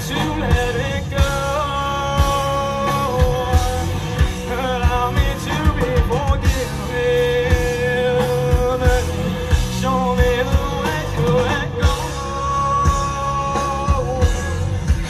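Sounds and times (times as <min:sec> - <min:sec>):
drum hits: 0:00.0 - 0:15.0
live rock band playing: 0:00.0 - 0:15.0.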